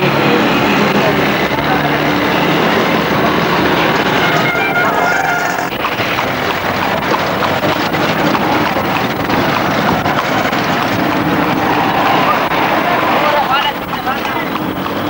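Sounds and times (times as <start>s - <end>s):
street traffic noise: 0.0s - 15.0s
vehicle engines running: 0.0s - 15.0s.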